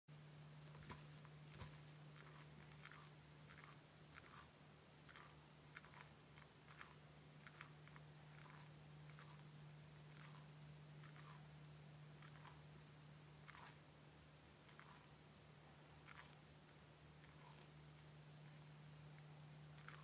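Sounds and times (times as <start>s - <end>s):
steady low hum: 0.1s - 20.0s
lizard crunching fruit: 0.6s - 12.7s, 13.4s - 13.9s, 14.6s - 15.2s, 16.0s - 16.5s, 17.2s - 20.0s.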